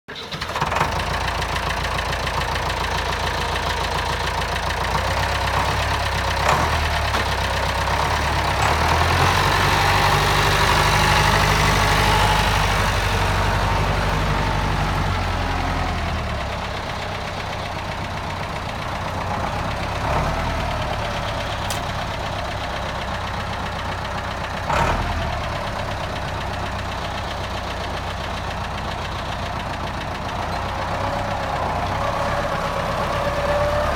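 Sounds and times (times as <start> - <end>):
tractor engine revving: 0.1 - 33.9.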